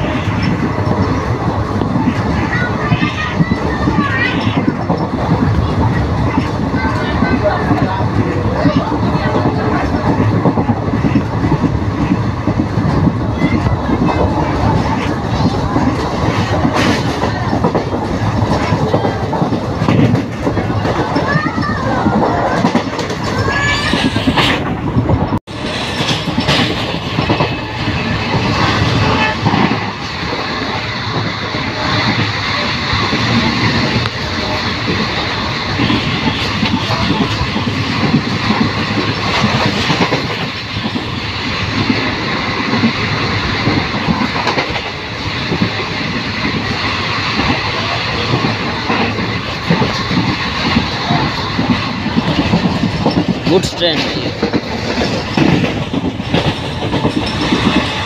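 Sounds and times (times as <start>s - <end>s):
passing train rushing by: 0.0s - 58.0s
train wheels clattering over rail joints: 0.0s - 58.0s.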